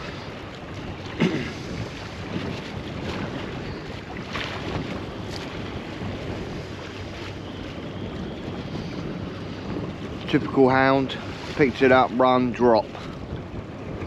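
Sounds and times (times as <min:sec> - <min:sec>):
waves slapping boat hull: 0:00.0 - 0:14.0
wind buffeting microphone: 0:00.0 - 0:14.0.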